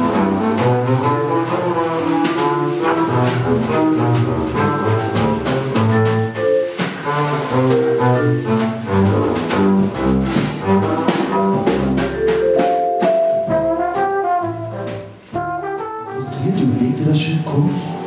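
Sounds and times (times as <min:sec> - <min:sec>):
trombone: 0:00.0 - 0:12.2, 0:13.4 - 0:17.0
jazz band playing: 0:00.0 - 0:18.0.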